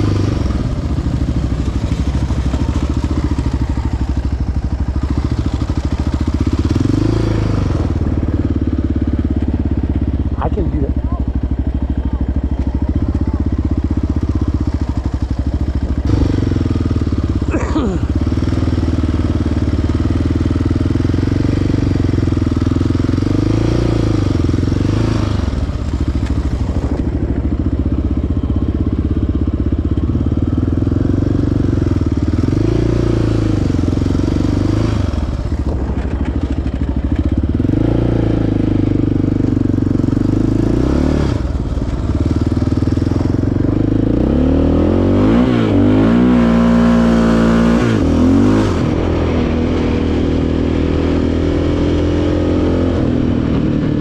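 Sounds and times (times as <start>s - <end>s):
quad engine revving: 0.0s - 28.0s, 28.8s - 54.0s.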